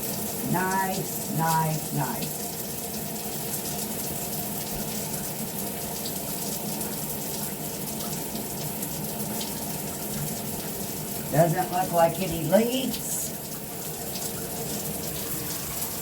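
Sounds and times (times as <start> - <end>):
shower spraying into bathtub: 0.0 - 16.0.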